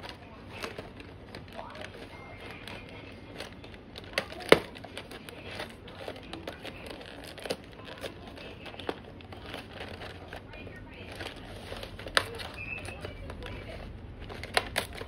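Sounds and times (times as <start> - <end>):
cardboard box crinkling: 0.0 - 15.0.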